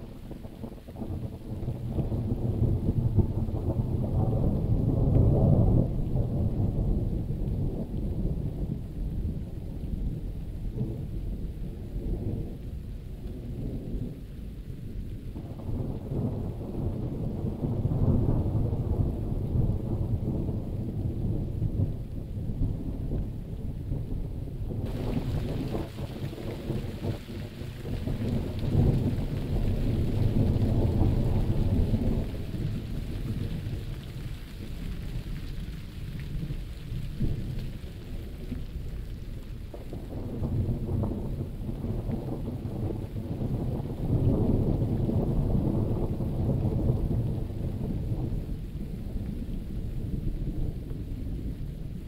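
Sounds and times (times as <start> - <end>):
thunder rumbling: 0.0 - 14.2, 15.0 - 52.0
steady rain: 0.0 - 52.0.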